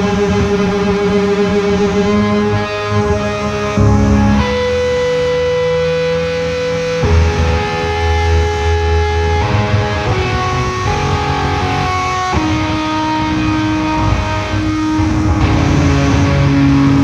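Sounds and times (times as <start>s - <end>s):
slow electric guitar and organ music: 0.0s - 17.0s.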